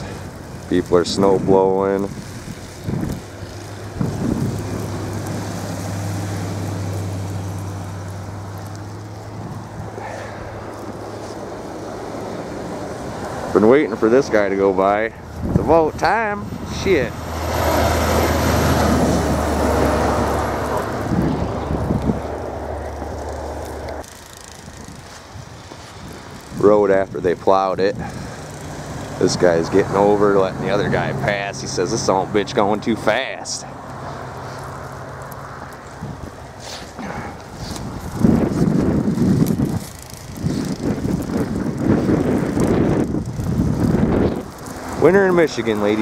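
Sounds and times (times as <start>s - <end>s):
vehicle driving past on snow: 0.0s - 15.0s, 15.7s - 24.0s, 28.0s - 46.0s
engine running steadily: 0.0s - 46.0s
wind on microphone: 1.0s - 24.0s, 24.6s - 28.4s, 35.9s - 46.0s.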